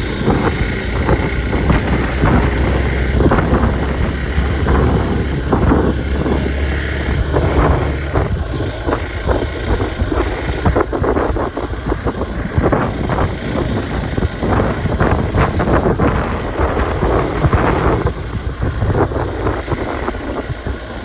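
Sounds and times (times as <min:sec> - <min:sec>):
motorcycle engine humming: 0:00.0 - 0:21.0
wind buffeting microphone: 0:00.0 - 0:21.0.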